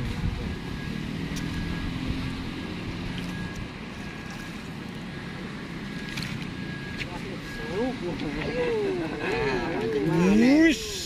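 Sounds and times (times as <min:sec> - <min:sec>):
motor engine humming: 0:00.0 - 0:11.0
outdoor background noise: 0:00.0 - 0:11.0.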